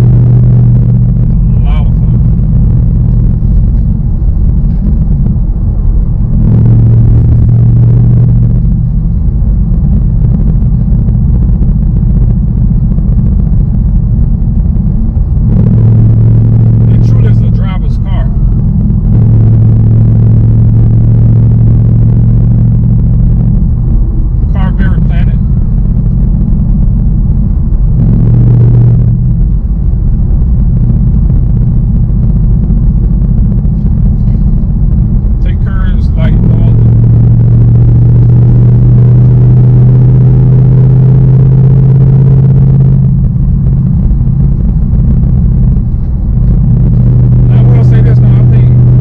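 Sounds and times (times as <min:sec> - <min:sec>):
car engine low rumble: 0:00.0 - 0:49.0
steady droning note: 0:00.0 - 0:49.0.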